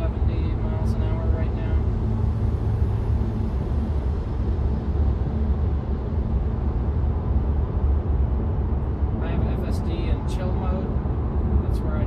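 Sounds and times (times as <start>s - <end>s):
road and wind noise in car: 0.0s - 12.0s.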